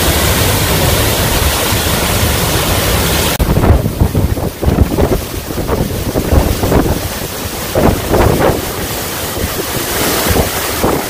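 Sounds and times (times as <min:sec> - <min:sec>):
waterfall rushing: 0:00.0 - 0:11.0
wind buffeting microphone: 0:00.5 - 0:11.0.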